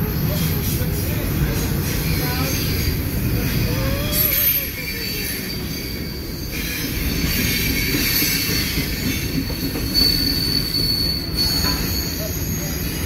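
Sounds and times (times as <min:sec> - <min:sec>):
wheels rumbling on rail: 0:00.0 - 0:13.0
high-pitched wheel squeal: 0:01.8 - 0:13.0.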